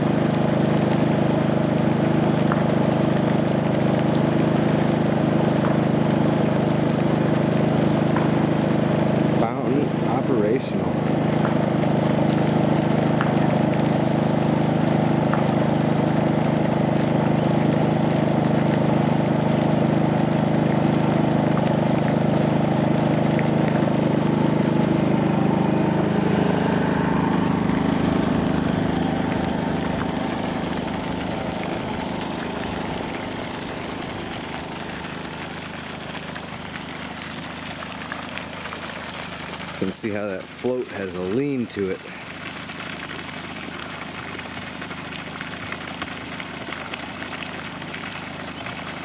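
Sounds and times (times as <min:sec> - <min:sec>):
motor humming: 0:00.0 - 0:42.3.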